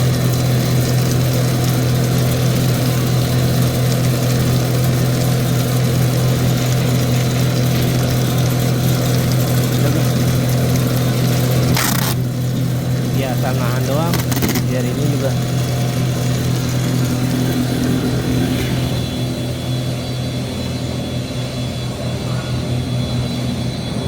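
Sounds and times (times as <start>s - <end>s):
extruder motor humming: 0.0s - 24.0s.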